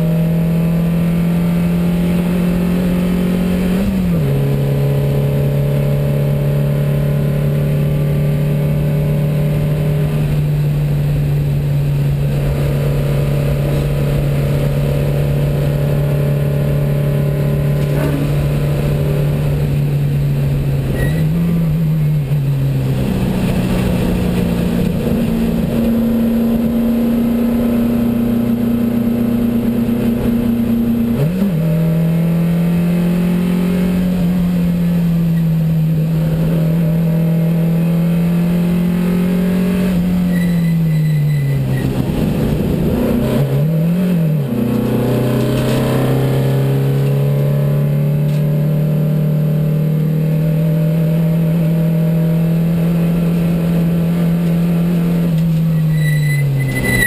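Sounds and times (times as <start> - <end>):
race car engine from inside cabin: 0.0 - 57.0.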